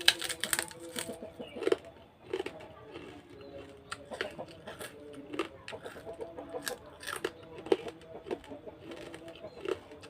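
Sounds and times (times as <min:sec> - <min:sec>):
chewing crunches: 0:00.0 - 0:10.0.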